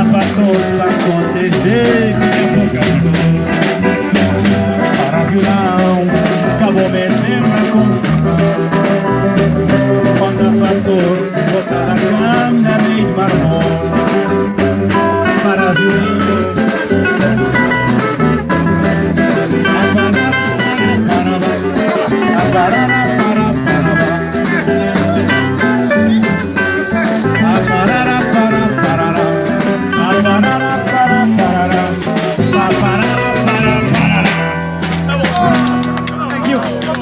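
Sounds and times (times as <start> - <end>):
band playing instrumental: 0.0 - 37.0
plucked guitar: 0.0 - 37.0.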